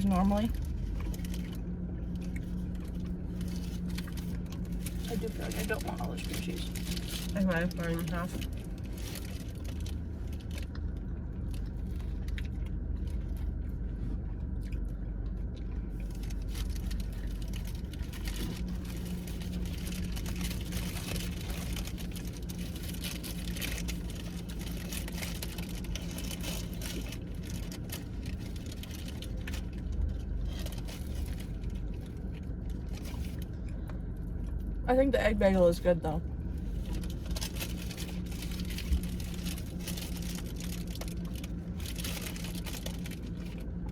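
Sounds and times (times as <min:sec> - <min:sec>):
food handling clicks and rustles: 0:00.0 - 0:34.7, 0:36.6 - 0:43.9
car interior rumble: 0:00.0 - 0:43.9.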